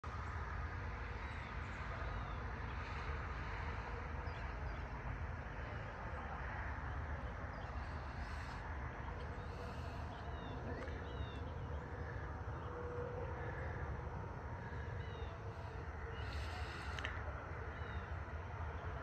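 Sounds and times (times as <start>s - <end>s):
low rumble and hiss: 0.1s - 19.0s.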